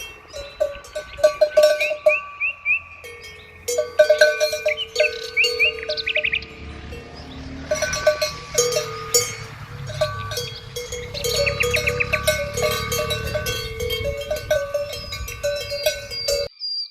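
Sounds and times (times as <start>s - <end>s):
cowbells clanking: 0.0s - 16.5s
high chirps: 0.0s - 16.6s.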